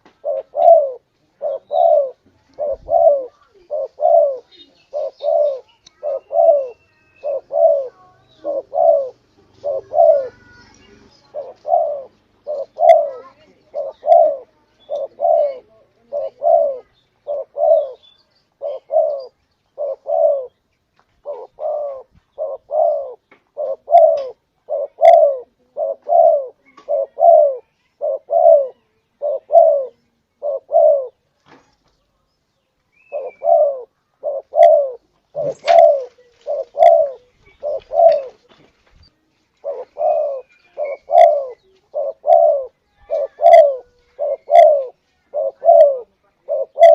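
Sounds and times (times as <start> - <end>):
dove cooing: 0.0 - 20.6, 21.2 - 31.2, 33.0 - 38.6, 39.6 - 46.9.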